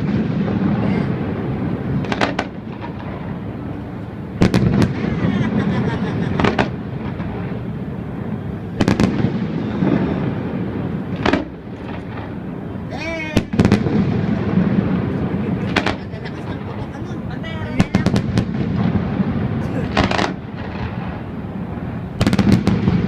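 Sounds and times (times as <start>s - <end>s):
rumble and crackle of bursts: 0.0s - 23.0s.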